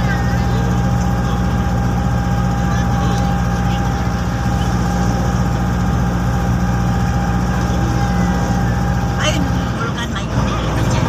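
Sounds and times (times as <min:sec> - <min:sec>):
thin steady whine: 0:00.0 - 0:11.0
vehicle engine droning: 0:00.0 - 0:11.0.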